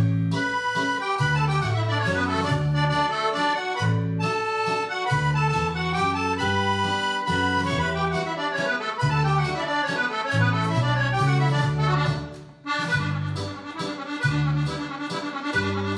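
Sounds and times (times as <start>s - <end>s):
accordion playing: 0.0s - 15.9s.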